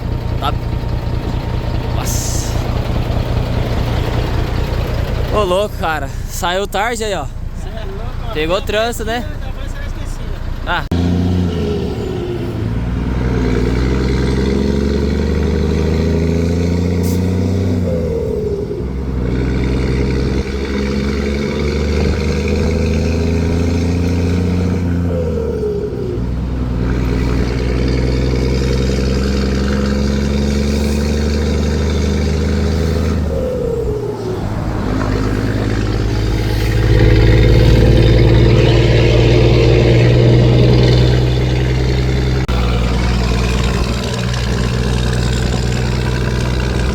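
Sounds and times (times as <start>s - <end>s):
truck diesel engine accelerating: 0.0s - 46.9s.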